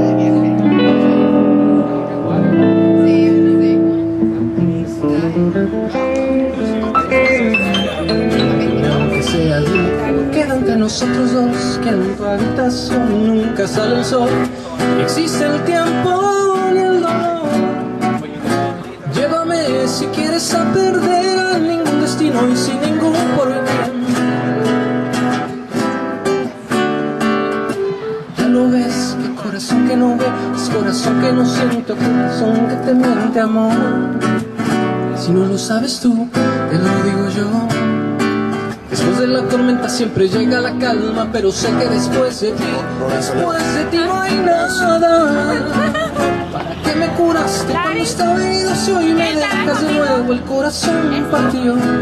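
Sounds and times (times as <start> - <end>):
acoustic guitar strumming: 0.0 - 52.0
man singing: 4.1 - 24.7, 27.7 - 52.0.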